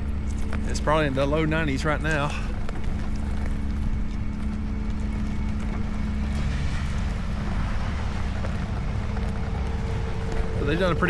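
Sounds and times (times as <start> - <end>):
heavy machinery engines rumbling: 0.0 - 11.0
steady machine hum: 0.0 - 11.0.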